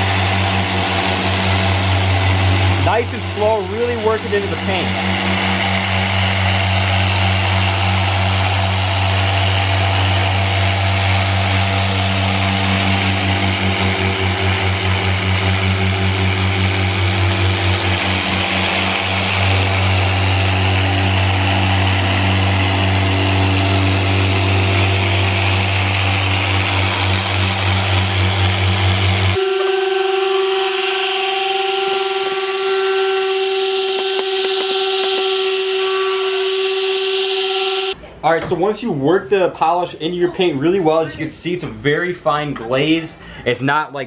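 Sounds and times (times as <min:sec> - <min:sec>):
car polisher humming: 0:00.0 - 0:38.0.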